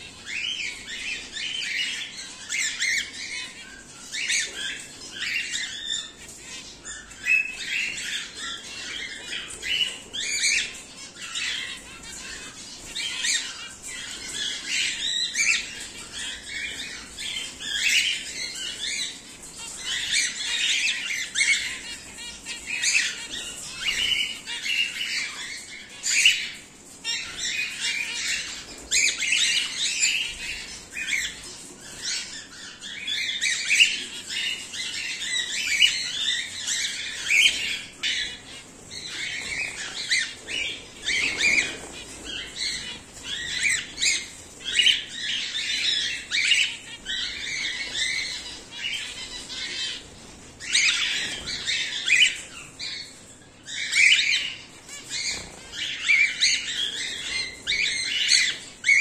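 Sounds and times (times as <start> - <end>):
birds chirping and squawking: 0.0 - 59.0.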